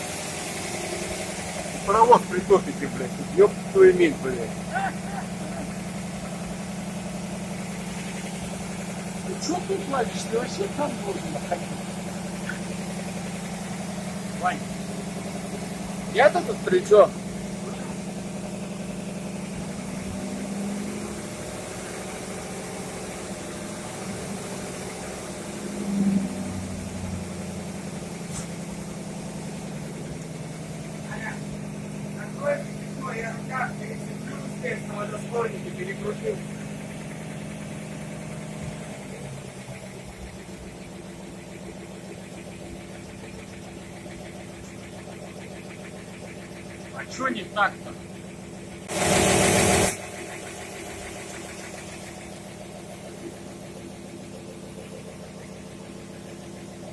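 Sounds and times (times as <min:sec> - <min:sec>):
fire pump engine running: 0:00.0 - 0:56.9.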